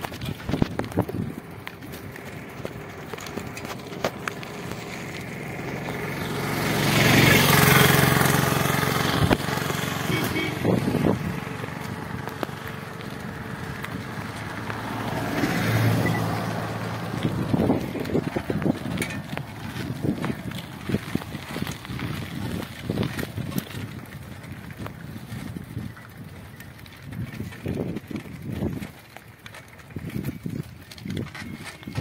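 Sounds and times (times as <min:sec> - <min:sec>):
motor vehicles passing: 0:00.0 - 0:32.0
road and wind rush: 0:00.0 - 0:32.0.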